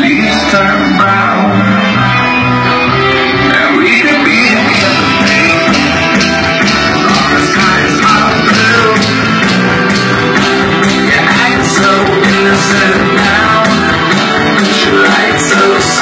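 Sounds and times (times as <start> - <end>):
loud music with singing and beat: 0.0 - 16.0.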